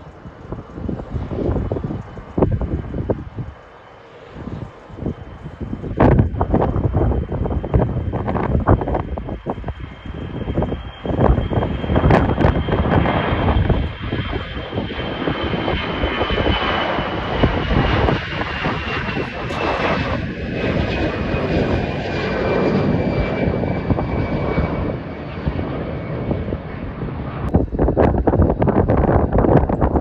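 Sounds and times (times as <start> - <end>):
jet engines roaring with whine: 0.0 - 30.0.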